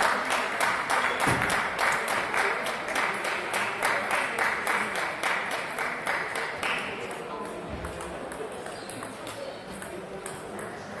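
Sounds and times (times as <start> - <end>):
spectators clapping in rhythm: 0.0 - 10.0.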